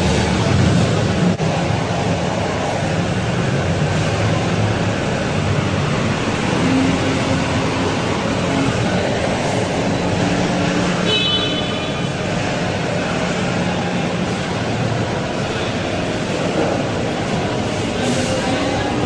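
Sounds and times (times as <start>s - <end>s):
road traffic engine rumble: 0.0s - 19.0s.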